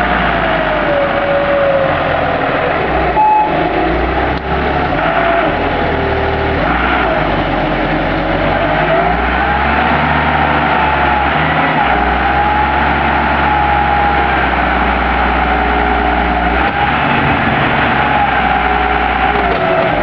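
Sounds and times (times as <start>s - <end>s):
forklift engine whining: 0.0s - 20.0s.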